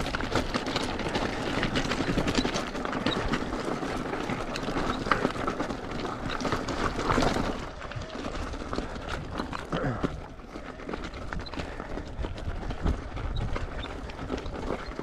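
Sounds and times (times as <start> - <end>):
bike tyres and frame clattering on stones: 0.0 - 15.0.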